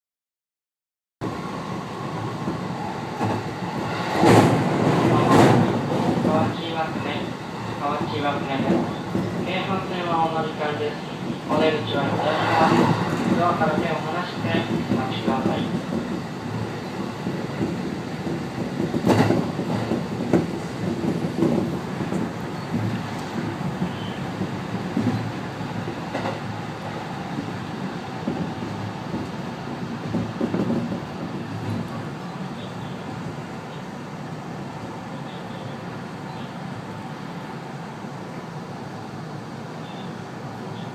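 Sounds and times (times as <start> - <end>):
train rumbling on rails: 1.2 - 40.9.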